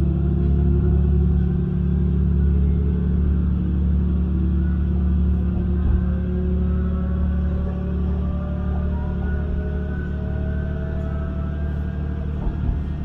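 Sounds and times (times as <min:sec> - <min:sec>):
train running drone: 0:00.0 - 0:13.0.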